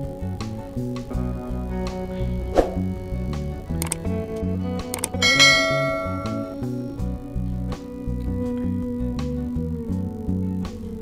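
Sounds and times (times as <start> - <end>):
instrumental music with plucked guitar: 0.0 - 11.0.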